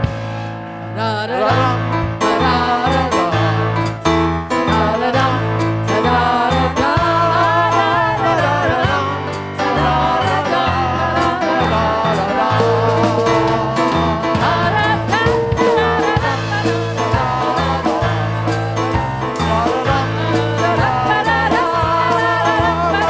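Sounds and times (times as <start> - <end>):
bass line: 0.0 - 23.0
voices singing worship song: 1.0 - 23.0.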